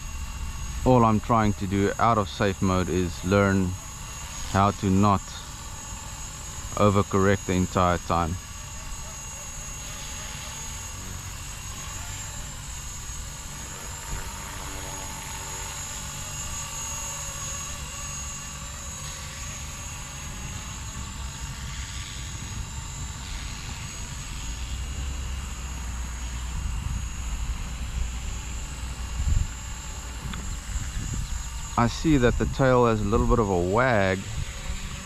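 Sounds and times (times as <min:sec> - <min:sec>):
rc helicopter whine: 0:00.0 - 0:35.0.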